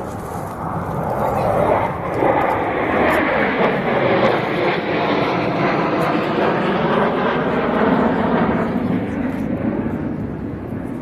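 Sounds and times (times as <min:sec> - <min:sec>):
aircraft flying over: 0:00.0 - 0:11.0.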